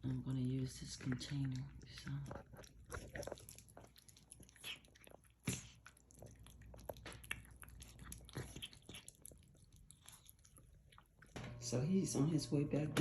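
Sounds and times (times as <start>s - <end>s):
crunching of cat food: 0.5s - 11.4s.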